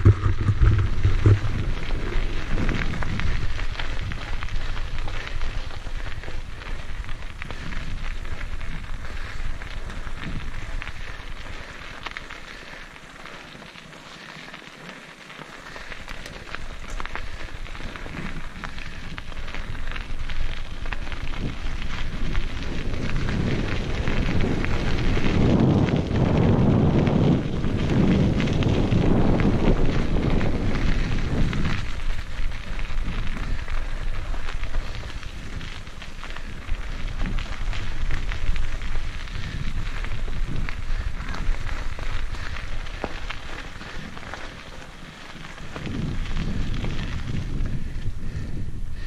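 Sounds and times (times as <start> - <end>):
wind rush on microphone: 0.0 - 13.0, 15.7 - 49.0
stones ticking: 0.0 - 48.4
bike tyres crunching on gravel: 0.0 - 49.0.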